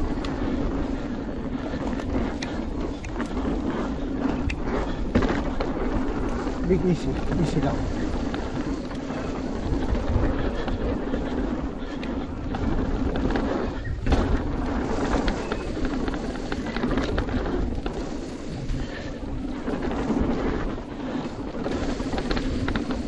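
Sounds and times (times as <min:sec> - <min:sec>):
bike clicks and rattles: 0:00.0 - 0:23.0
bike tyres rushing on dirt: 0:00.0 - 0:23.0.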